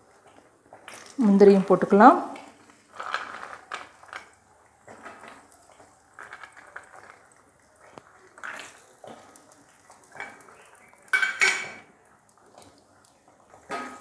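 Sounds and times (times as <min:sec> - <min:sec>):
faint sizzle: 0:00.0 - 0:14.0
nuts frying with crackles and pops: 0:00.0 - 0:14.0.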